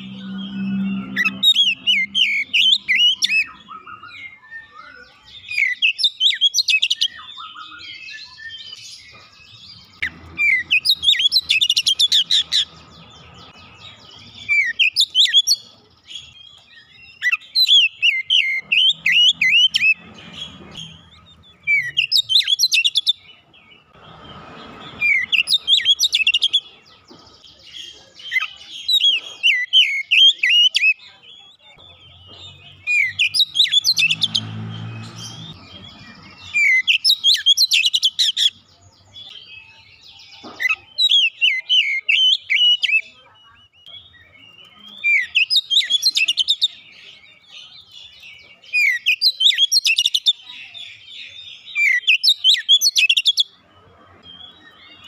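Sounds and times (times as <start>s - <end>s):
songbird whistling and chattering: 0.0s - 8.8s, 9.8s - 26.7s, 32.0s - 38.6s, 39.2s - 53.6s.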